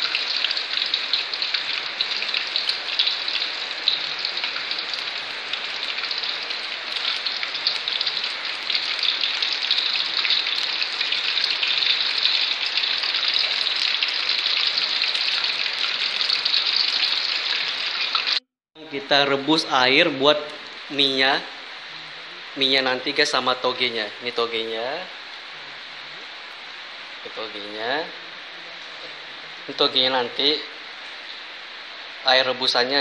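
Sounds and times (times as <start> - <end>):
tofu deep-frying in hot oil: 0.0 - 33.0.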